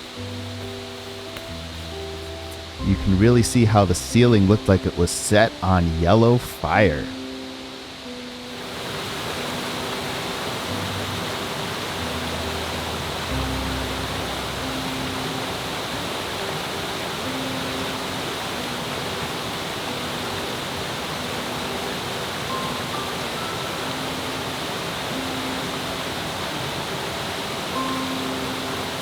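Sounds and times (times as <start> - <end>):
soft music of held notes: 0.0 - 29.0
steady rushing noise: 0.0 - 29.0.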